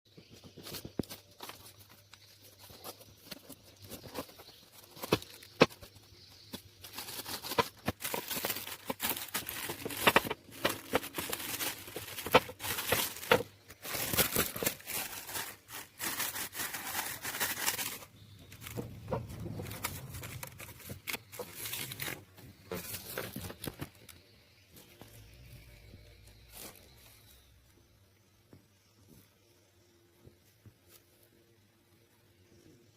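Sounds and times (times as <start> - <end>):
rustling: 0.2 - 27.8.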